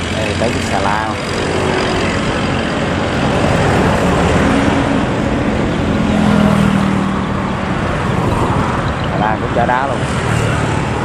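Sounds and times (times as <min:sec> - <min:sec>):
engine and traffic noise: 0:00.0 - 0:11.0.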